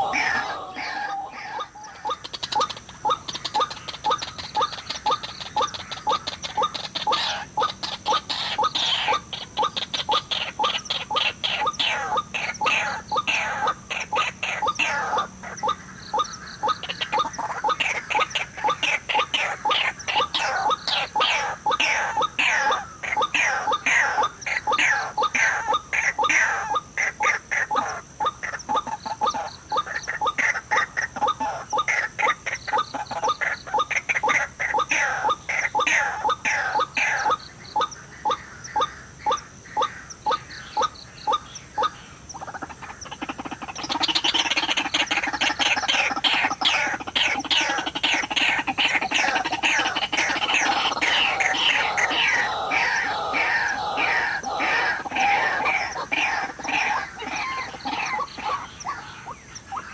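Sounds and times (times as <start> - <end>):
waterhen calls: 0.0 - 59.9.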